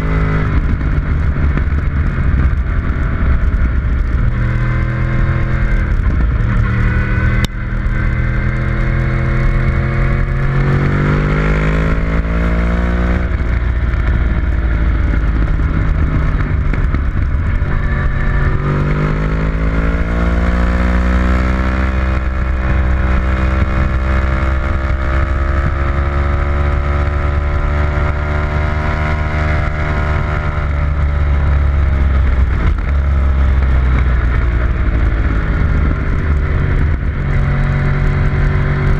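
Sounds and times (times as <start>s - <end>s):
engine accelerating hard: 0.0s - 38.9s
heavy wind rumble: 0.0s - 38.9s.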